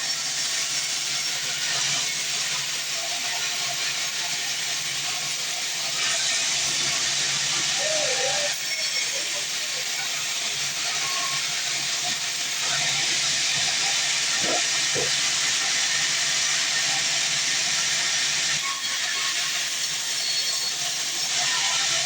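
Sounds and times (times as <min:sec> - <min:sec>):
saw cutting through a log: 0:00.0 - 0:22.0.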